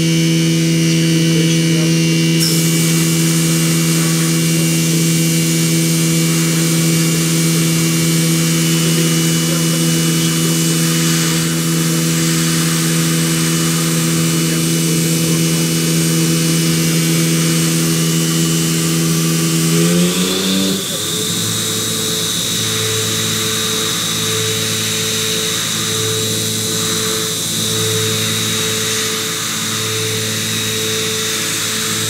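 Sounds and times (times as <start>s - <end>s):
machine spindle hum with hiss: 0.0s - 32.0s.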